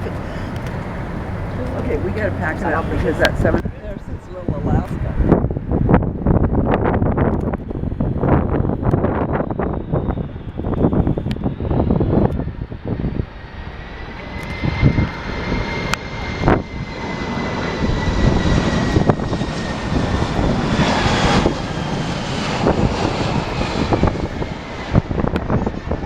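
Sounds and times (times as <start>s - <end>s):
jet engines whining: 0.0s - 26.0s
wind buffeting microphone: 0.0s - 26.0s.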